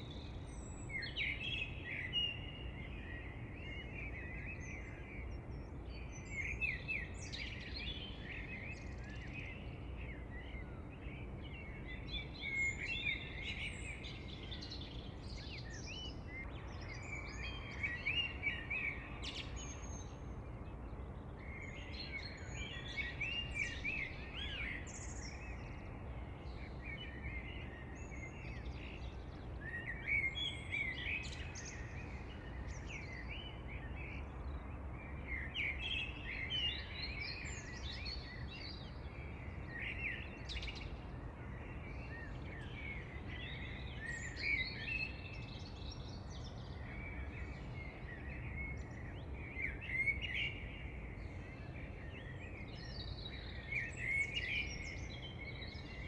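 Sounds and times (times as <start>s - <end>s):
low background hiss: 0.0s - 56.0s
songbirds singing and chirping: 0.0s - 56.0s.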